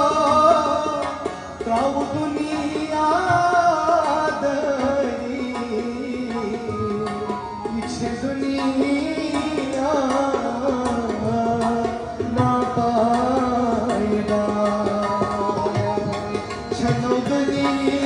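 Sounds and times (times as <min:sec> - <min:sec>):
held-note drone accompaniment: 0:00.0 - 0:18.0
man singing: 0:00.0 - 0:18.0
tabla drumming: 0:00.0 - 0:18.0.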